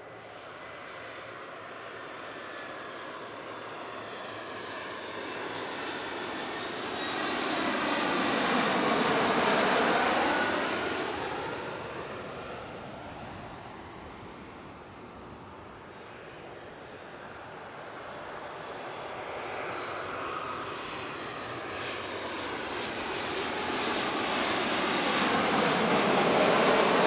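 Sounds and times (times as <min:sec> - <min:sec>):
high jet engine whine: 0:00.0 - 0:27.0
jet passing low overhead: 0:00.0 - 0:27.0.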